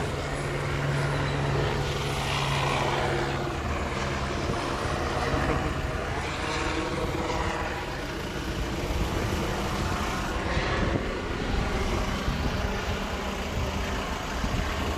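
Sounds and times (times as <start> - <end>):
concrete mixer engine running: 0.0 - 14.9.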